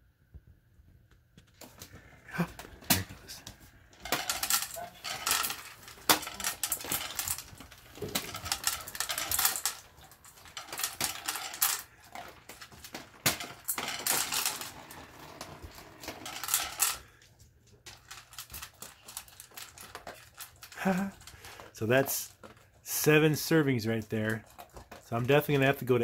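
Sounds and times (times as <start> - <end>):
kibble rattling in metal bowl: 1.6 - 26.0.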